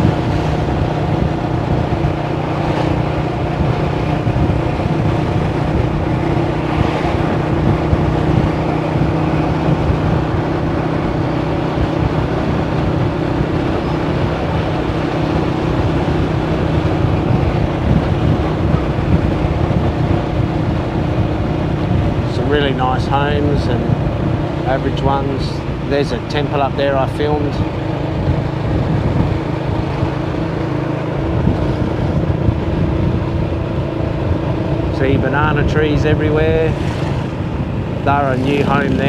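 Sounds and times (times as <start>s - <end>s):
wind noise on microphone: 0.0s - 39.0s.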